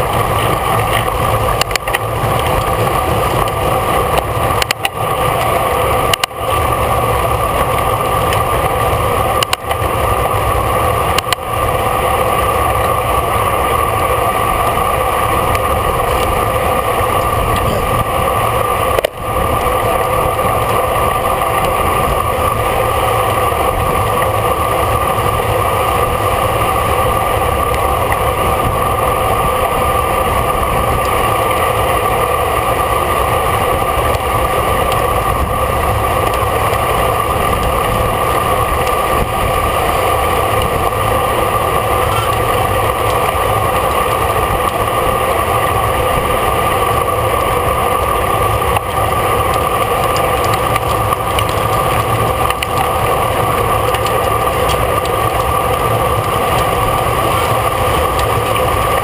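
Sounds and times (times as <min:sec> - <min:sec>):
bicycle road noise: 0:00.0 - 0:59.0
constant tones: 0:00.0 - 0:59.0
low rumble: 0:00.0 - 0:59.0
wind rush: 0:00.0 - 0:59.0.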